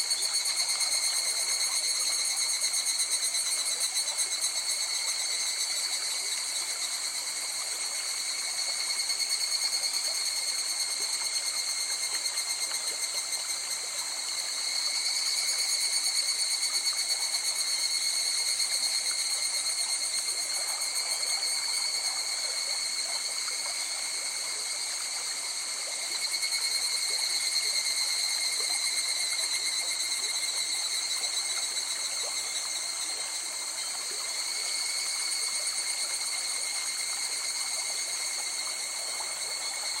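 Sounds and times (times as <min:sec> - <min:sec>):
night insects trilling: 0:00.0 - 0:40.0.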